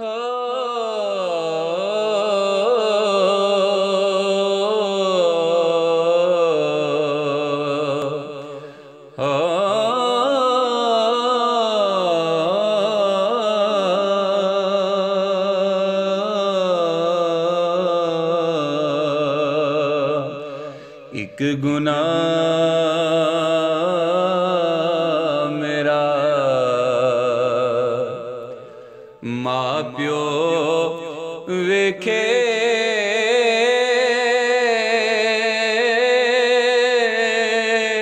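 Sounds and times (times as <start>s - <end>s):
man singing wordless melody: 0.0s - 38.0s.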